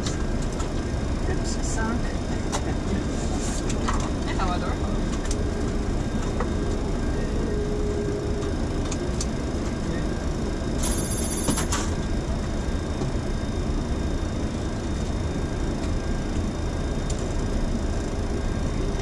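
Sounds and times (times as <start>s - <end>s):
aircraft engines running: 0.0s - 19.0s
high-pitched ringing rattle: 0.0s - 19.0s.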